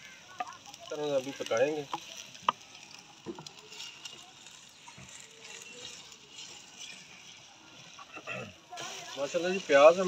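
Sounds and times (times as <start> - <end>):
faint sizzling of frying onions: 0.0 - 10.0.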